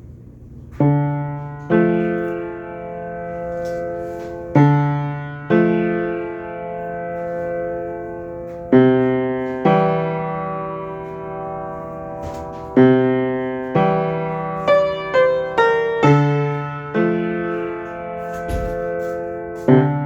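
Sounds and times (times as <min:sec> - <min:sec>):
piano playing slow riff: 0:00.7 - 0:20.0.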